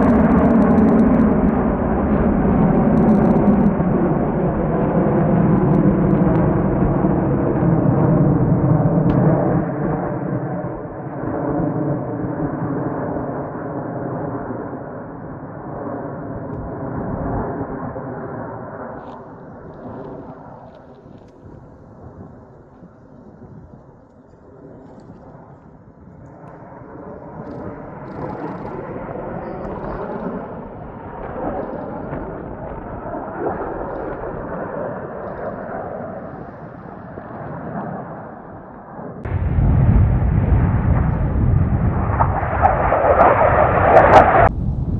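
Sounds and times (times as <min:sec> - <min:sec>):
jet roar in flight: 0:00.0 - 0:44.9.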